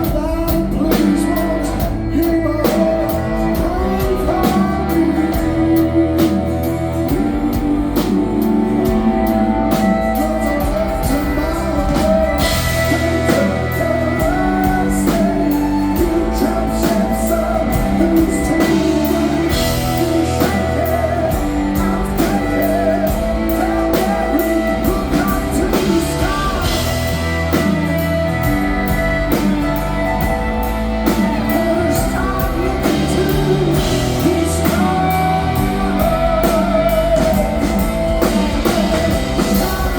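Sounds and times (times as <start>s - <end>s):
drum kit beat: 0.0s - 39.9s
electric guitars: 0.0s - 39.9s
person singing: 0.0s - 39.9s.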